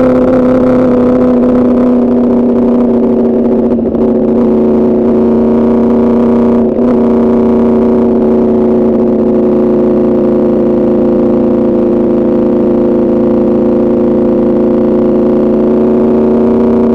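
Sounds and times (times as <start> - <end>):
motorcycle engine running steadily: 0.0 - 16.9.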